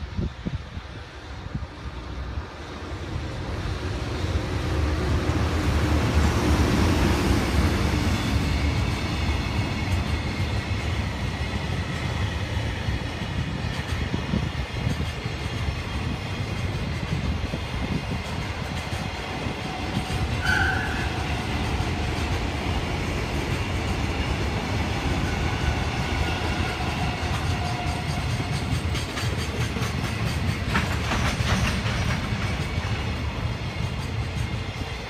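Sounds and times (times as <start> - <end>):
electric locomotive passing: 0.0 - 35.0.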